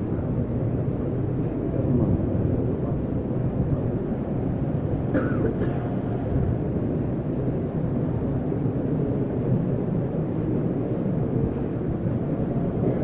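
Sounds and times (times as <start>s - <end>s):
crowded hall room noise: 0.0s - 13.0s.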